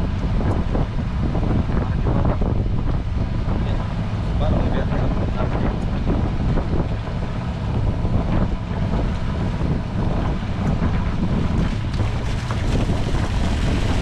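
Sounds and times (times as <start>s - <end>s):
boat engine rumble: 0.0s - 14.0s
wind buffeting microphone: 0.0s - 14.0s.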